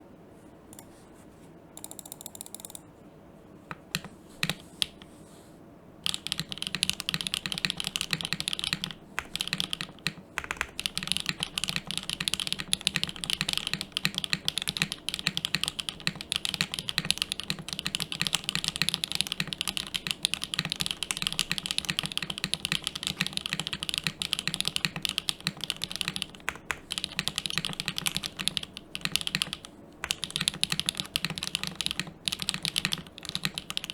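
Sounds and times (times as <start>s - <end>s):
mechanical keyboard typing: 1.8s - 2.8s, 3.7s - 5.1s, 6.0s - 33.9s.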